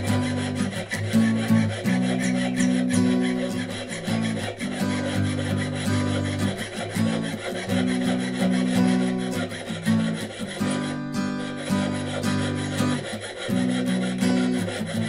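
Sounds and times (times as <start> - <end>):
saw cutting thin metal: 0.0 - 15.0.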